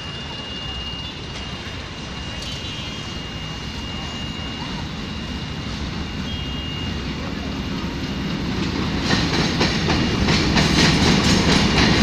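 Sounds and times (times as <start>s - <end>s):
approaching train rumble: 0.0s - 12.0s
road traffic engine noise: 0.0s - 12.0s.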